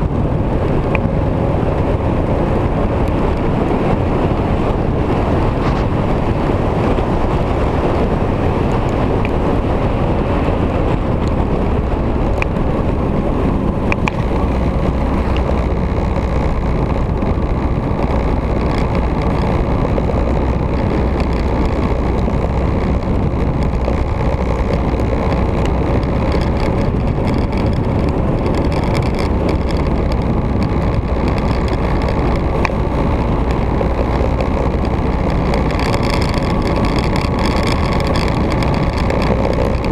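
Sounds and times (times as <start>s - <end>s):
motorcycle engine drone: 0.0s - 39.9s
rushing wind noise: 0.0s - 39.9s.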